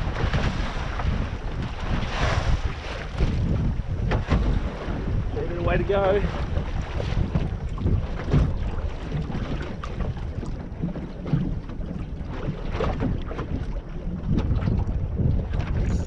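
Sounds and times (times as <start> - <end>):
water slopping against boat hull: 0.0 - 16.0
wind buffeting microphone: 0.0 - 16.0.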